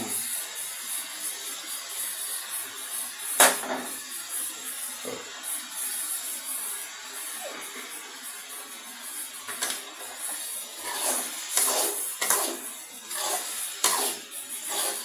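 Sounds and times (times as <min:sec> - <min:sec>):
prawns frying in oil: 0:00.0 - 0:15.0.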